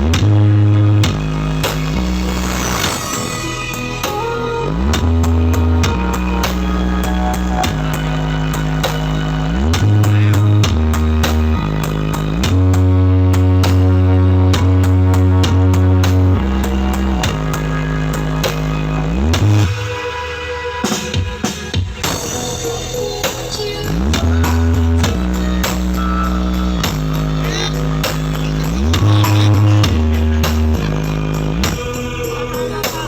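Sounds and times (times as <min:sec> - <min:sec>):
loud dance music: 0:00.0 - 0:33.0.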